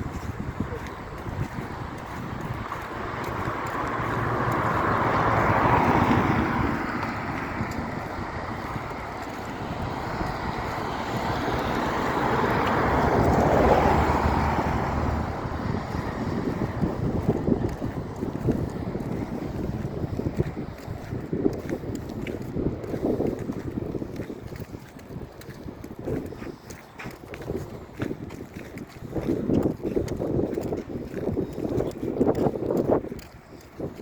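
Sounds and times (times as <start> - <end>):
road vehicles passing by: 0.0 - 34.0.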